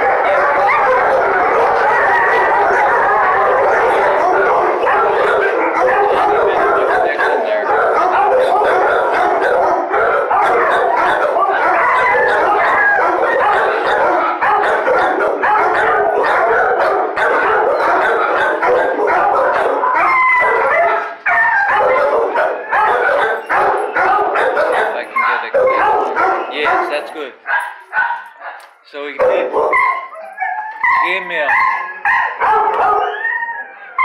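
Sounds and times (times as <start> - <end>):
many dogs barking and howling: 0.0 - 34.0.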